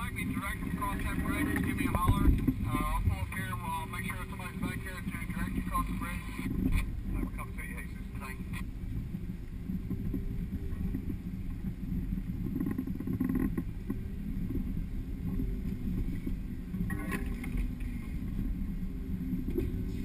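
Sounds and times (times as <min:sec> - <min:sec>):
vehicle engine low rumble: 0:00.0 - 0:20.0.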